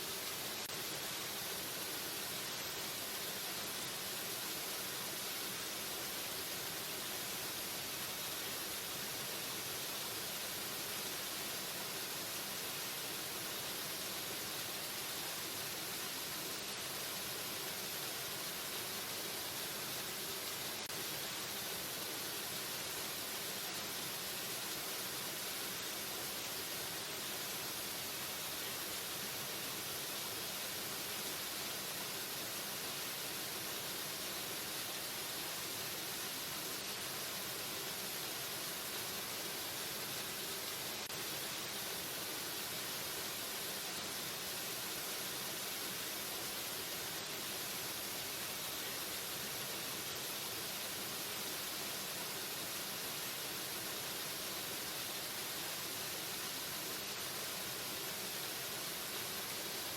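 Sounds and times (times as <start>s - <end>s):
waterfall hissing: 0.0s - 59.9s.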